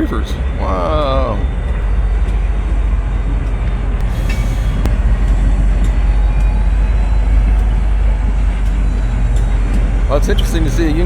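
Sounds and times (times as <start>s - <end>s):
freight train rumbling past: 0.0s - 11.0s
sharp clicks of train wheels: 0.0s - 11.0s.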